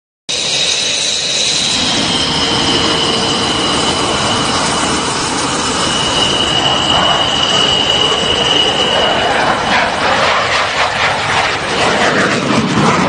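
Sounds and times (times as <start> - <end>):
jet engine rushing with high whine: 0.3 - 13.0.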